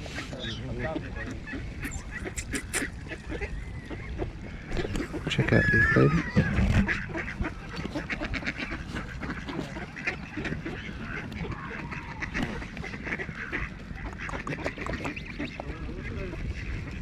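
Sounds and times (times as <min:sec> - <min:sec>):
geese and ducks calling: 0:00.0 - 0:17.0.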